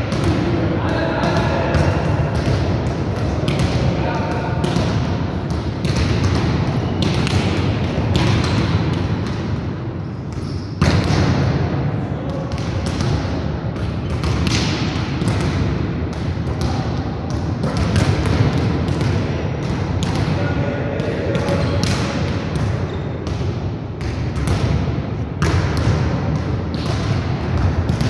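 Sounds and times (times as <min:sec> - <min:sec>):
volleyballs hit and bouncing: 0:00.0 - 0:28.0.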